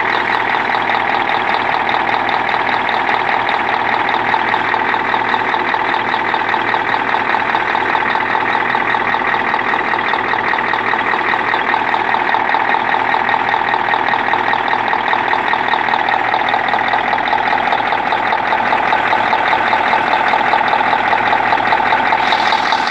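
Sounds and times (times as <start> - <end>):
diesel engine running: 0.0 - 22.9
rapid engine knock: 0.0 - 22.9.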